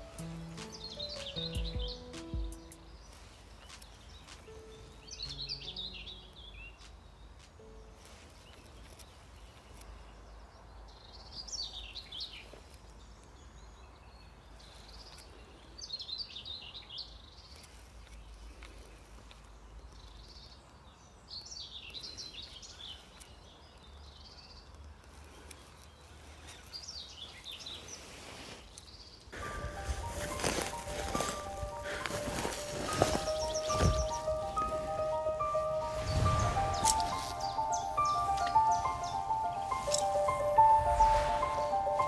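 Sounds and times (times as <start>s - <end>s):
songbird chirping: 0.0s - 42.0s.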